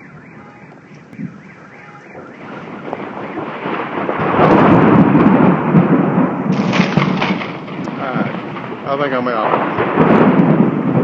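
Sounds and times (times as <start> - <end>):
rain: 0.0 - 11.0
thunder rumbling: 0.0 - 11.0.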